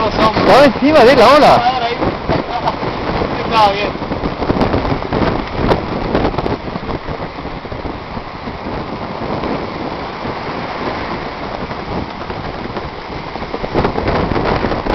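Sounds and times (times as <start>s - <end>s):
water rushing and splashing: 0.0s - 14.9s
wind buffeting microphone: 0.0s - 14.9s.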